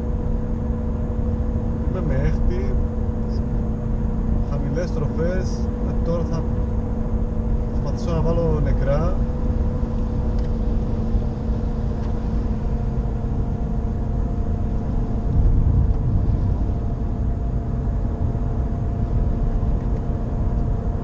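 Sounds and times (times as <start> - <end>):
car engine tone: 0.0 - 21.0
piercing drone: 0.0 - 21.0
road rumble: 0.0 - 21.0.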